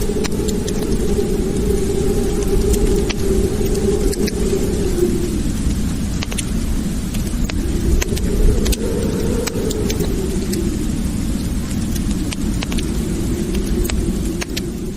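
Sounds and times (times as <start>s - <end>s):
fire roaring: 0.0s - 14.9s
wood fire crackling and popping: 0.0s - 14.9s.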